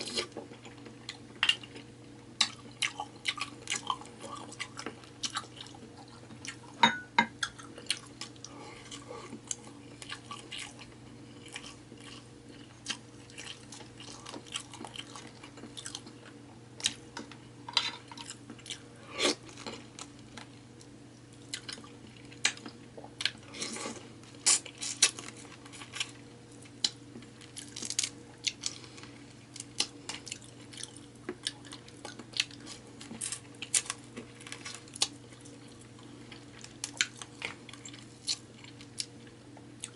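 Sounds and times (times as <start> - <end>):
chewing and mouth sounds: 0.0 - 6.8, 7.4 - 17.0, 18.2 - 39.9
steady low hum: 0.0 - 39.9.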